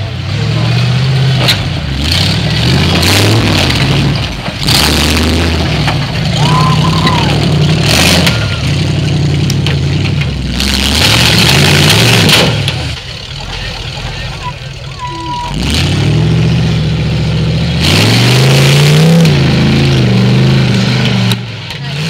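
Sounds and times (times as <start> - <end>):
engine revving: 0.0 - 14.5, 15.4 - 22.0.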